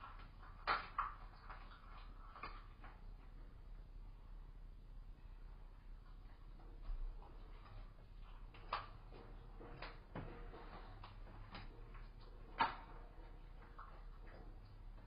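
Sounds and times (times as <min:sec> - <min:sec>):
leopard cub chewing carcass: 0:00.0 - 0:03.5, 0:06.0 - 0:15.0.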